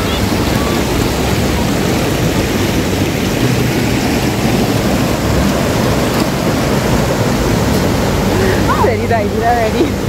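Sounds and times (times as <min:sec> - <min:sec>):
river flowing over rocks: 0:00.0 - 0:10.0.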